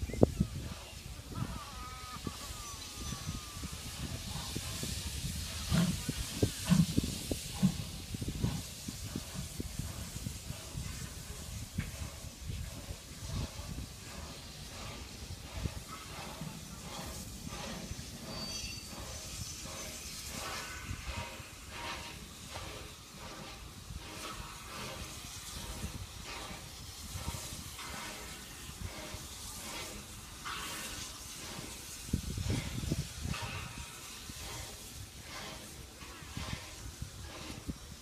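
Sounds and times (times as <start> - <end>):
steam locomotive hissing: 0.0 - 38.0.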